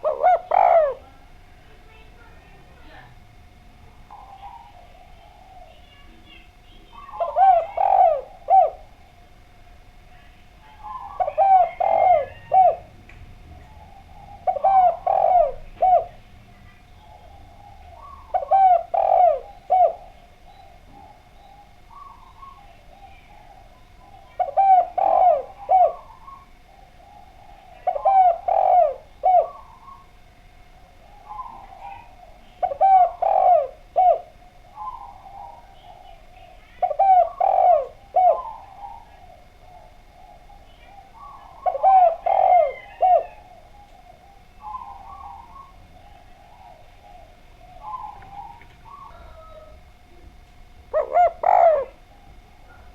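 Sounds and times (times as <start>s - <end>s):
dove cooing: 0.0s - 52.9s
faint steady tone: 0.0s - 52.9s.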